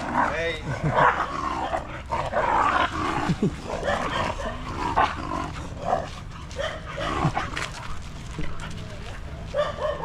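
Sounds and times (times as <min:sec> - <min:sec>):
dogs barking and yelping: 0:00.0 - 0:08.1, 0:09.4 - 0:10.0.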